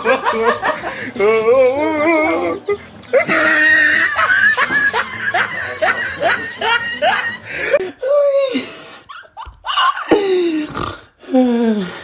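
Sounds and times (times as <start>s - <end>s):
person laughing hard: 0.0s - 10.8s.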